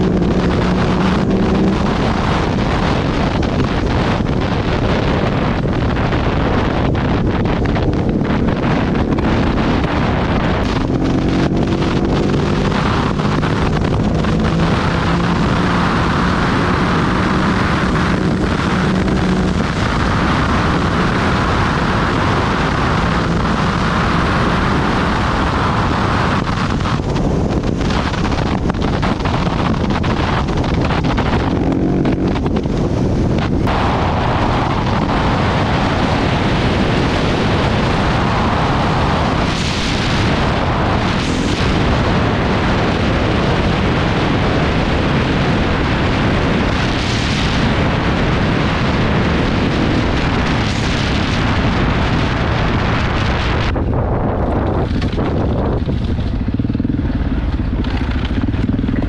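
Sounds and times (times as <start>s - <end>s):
motorcycle engine running: 0.0s - 59.0s
wind buffeting on microphone: 0.0s - 59.0s.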